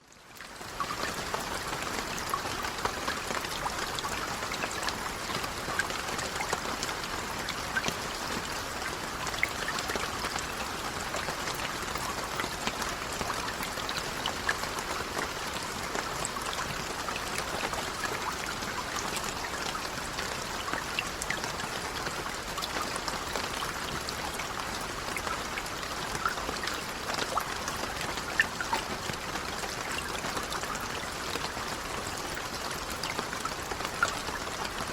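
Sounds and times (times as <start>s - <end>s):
light rain patter: 0.0s - 34.9s.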